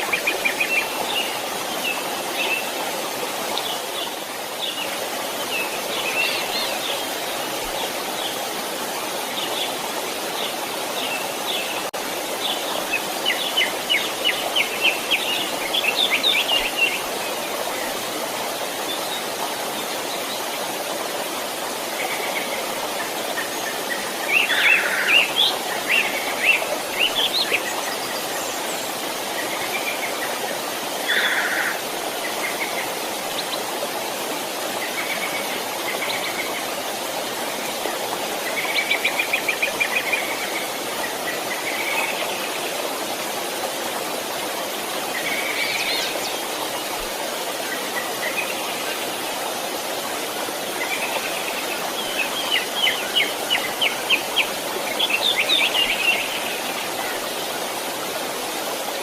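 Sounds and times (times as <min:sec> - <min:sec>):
birds calling and singing: 0:00.0 - 0:43.8, 0:44.9 - 0:57.9
stream rushing: 0:00.0 - 0:59.0.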